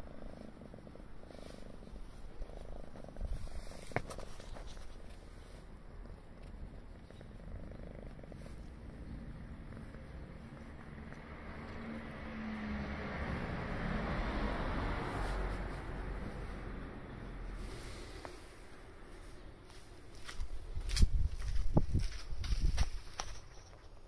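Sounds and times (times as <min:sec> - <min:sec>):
cat purring: 0:00.0 - 0:12.6, 0:13.2 - 0:20.7.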